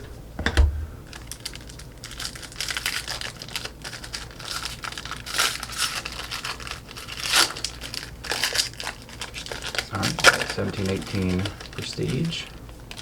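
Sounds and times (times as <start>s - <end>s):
foil wrapper crinkling: 1.1s - 13.0s
wrapper ripping: 1.1s - 13.0s.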